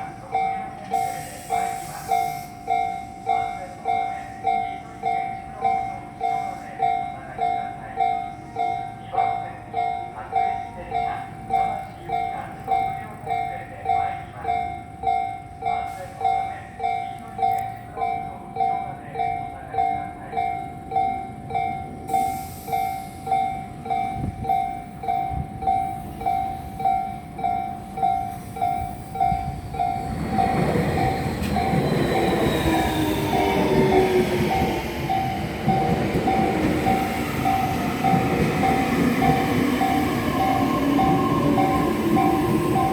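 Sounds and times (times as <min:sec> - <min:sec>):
electric train passing: 0:00.0 - 0:42.9.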